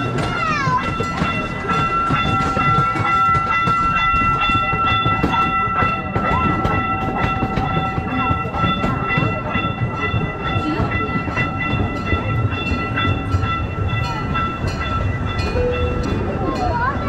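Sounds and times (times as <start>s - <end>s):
train rumbling along track: 0.0s - 17.0s
wheels clicking over rail joints: 0.0s - 17.0s.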